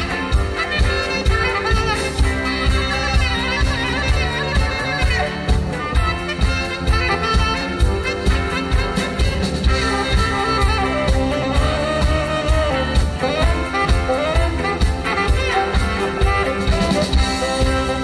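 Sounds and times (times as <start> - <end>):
drum kit beat: 0.0 - 18.0
live band playing: 0.0 - 18.0
melodic lead line: 0.0 - 18.0.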